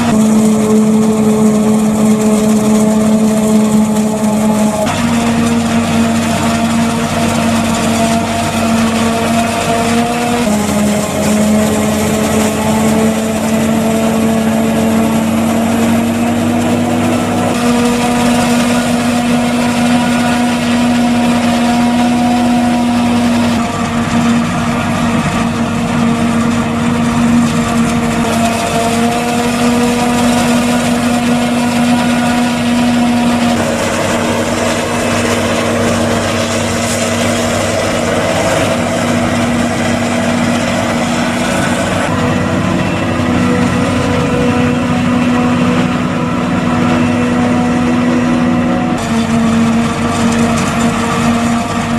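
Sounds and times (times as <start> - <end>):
forage harvester engine running: 0.0 - 51.9.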